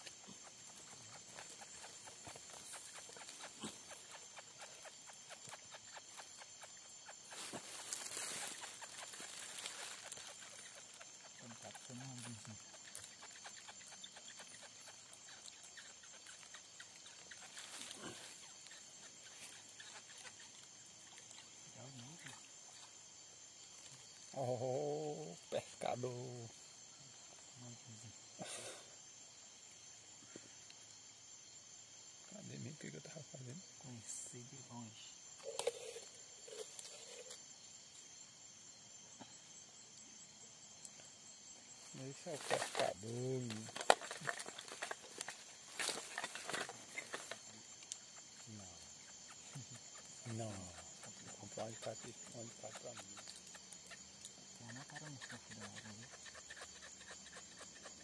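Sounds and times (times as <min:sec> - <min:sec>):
insects and frogs chorus: 0:00.0 - 0:58.0
small scattered ticks: 0:00.0 - 0:58.0.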